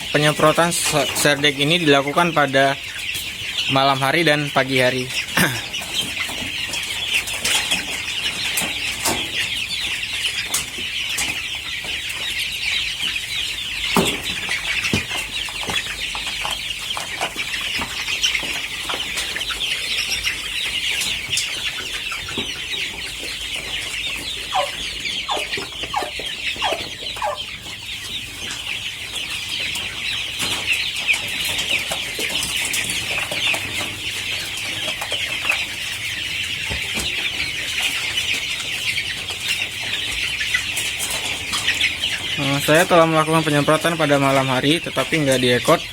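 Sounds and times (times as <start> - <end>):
chickens peeping and clucking: 0.0 - 45.9.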